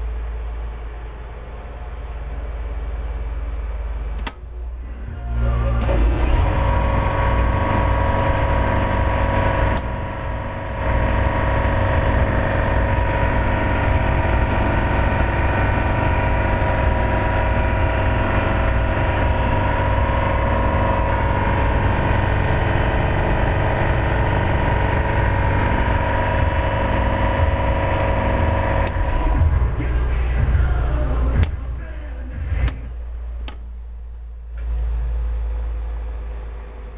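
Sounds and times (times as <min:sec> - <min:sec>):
machine humming and whining: 0:00.0 - 0:36.9.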